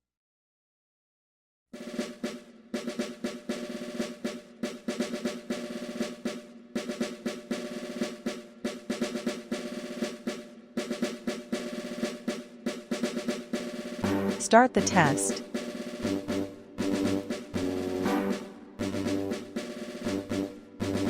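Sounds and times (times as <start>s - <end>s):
drum-led background music: 1.8s - 21.0s.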